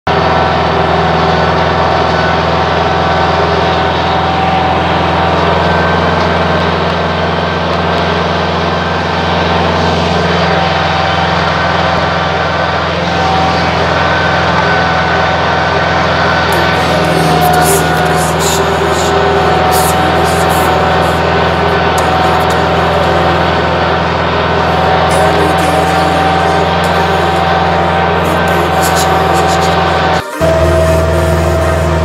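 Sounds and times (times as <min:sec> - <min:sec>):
tractor diesel engine running: 0:00.1 - 0:32.0.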